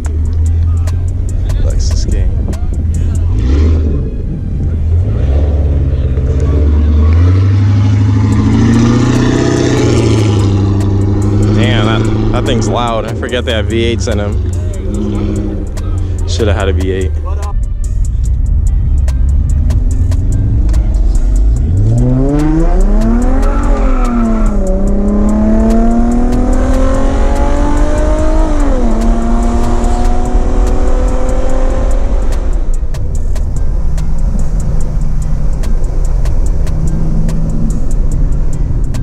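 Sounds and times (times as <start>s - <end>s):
car engine accelerating hard: 0.0s - 39.0s.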